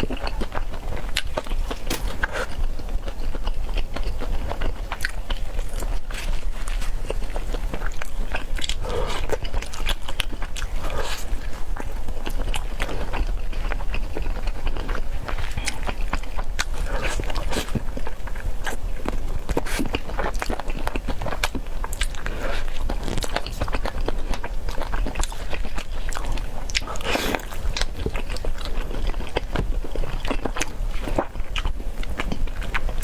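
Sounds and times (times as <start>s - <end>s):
person chewing and biting food: 0.0s - 33.0s.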